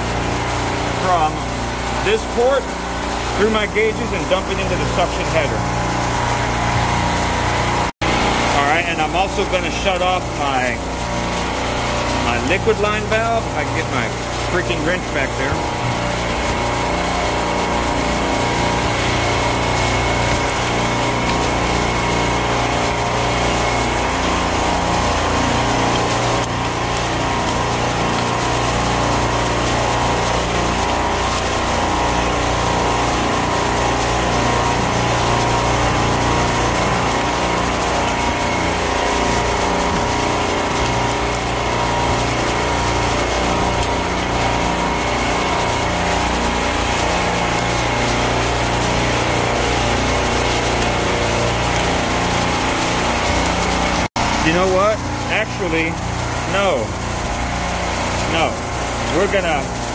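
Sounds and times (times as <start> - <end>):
refrigeration compressor drone: 0.0 - 59.9.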